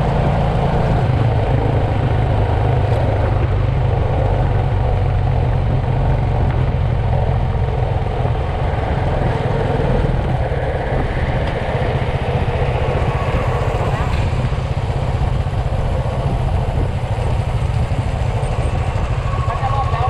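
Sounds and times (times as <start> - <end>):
motorcycle engine running: 0.0 - 20.0
wind and road noise rumble: 0.0 - 20.0.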